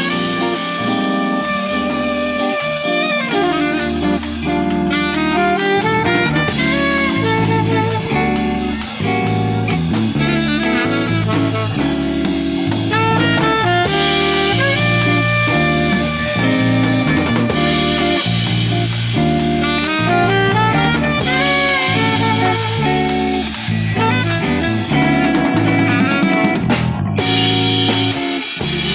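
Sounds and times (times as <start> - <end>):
jazz band playing: 0.0 - 28.9
saxophone lead: 0.0 - 28.9.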